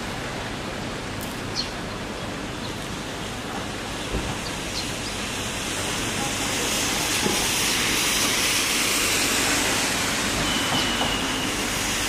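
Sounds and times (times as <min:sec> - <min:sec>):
rain and wind hiss: 0:00.0 - 0:12.0.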